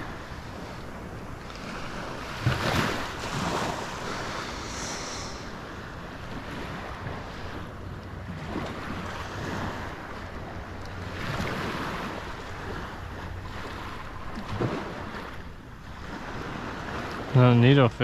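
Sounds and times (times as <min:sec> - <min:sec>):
wind buffeting microphone: 0:00.0 - 0:17.8
small waves lapping: 0:00.0 - 0:18.0.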